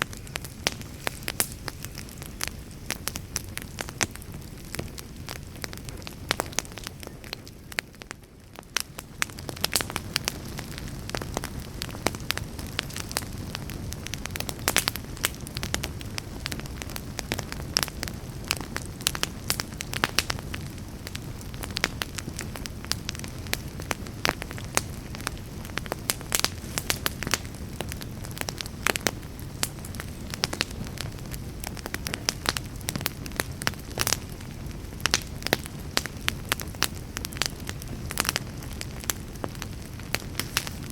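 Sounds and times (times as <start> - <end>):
low rumble of flames: 0.0 - 40.9
wood crackling and popping: 0.0 - 40.9.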